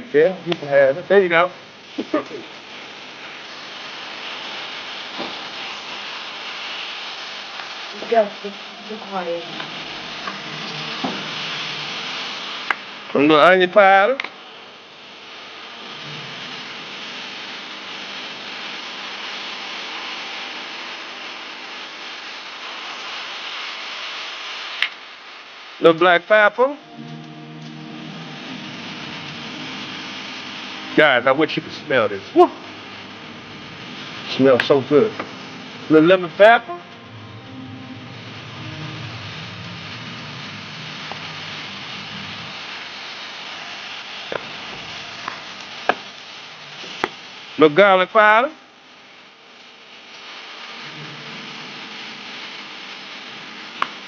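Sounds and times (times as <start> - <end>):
meat sizzling: 1.4 - 47.6.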